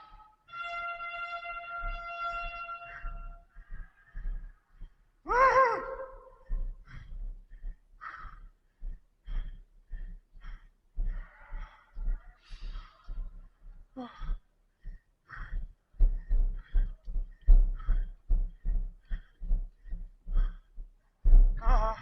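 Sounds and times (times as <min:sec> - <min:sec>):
rapid heavy breathing: 0:02.9 - 0:22.0.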